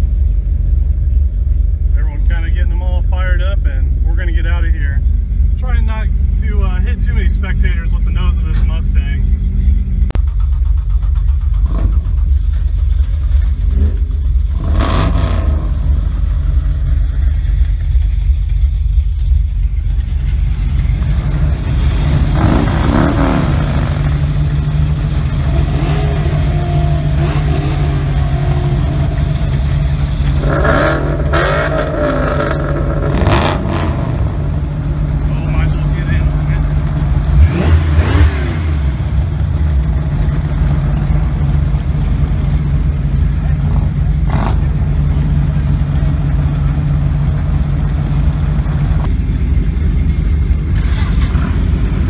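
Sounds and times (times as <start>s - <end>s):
low engine hum: 0.0s - 52.0s
vehicle engine rumble: 0.0s - 52.0s.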